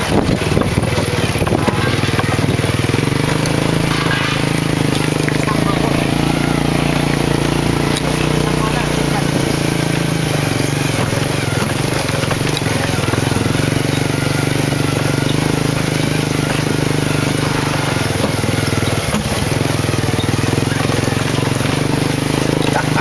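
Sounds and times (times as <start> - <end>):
motorcycle engine running: 0.0 - 23.0
road and rattle noise: 0.0 - 23.0.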